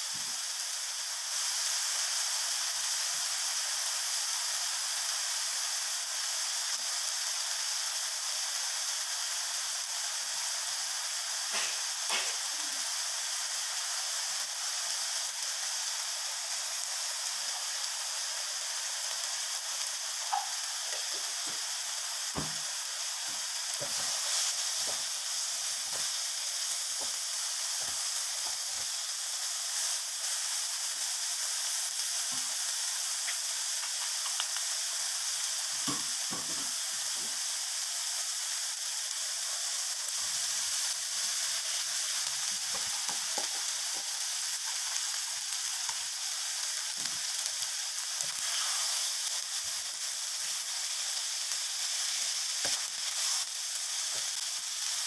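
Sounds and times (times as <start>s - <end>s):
stir-fry sizzling in a wok: 0.0s - 55.0s.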